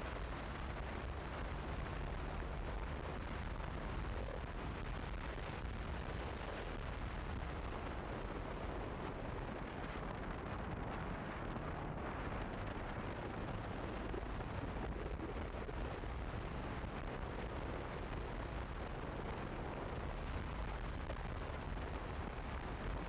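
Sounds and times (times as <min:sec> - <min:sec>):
wind rumbling over microphone: 0:00.0 - 0:23.0.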